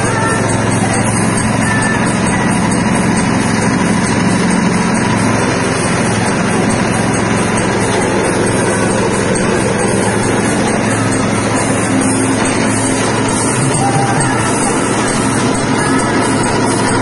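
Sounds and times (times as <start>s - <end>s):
soybean cracking machine running: 0.0s - 17.0s.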